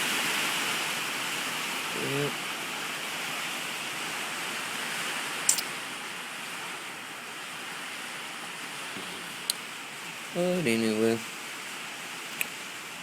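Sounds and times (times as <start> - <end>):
heavy rain and wind hiss: 0.0 - 13.0.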